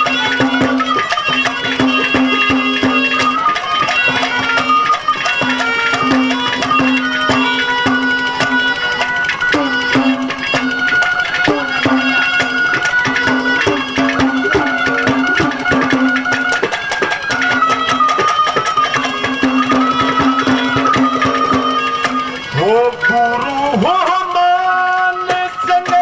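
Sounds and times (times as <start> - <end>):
harmonium melody: 0.0 - 26.0
rapid hand-drum strokes: 0.0 - 26.0.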